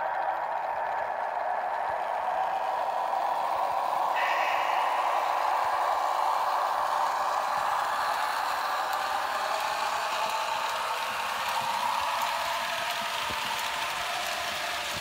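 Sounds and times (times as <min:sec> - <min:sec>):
model train motors whirring: 0:00.0 - 0:15.0.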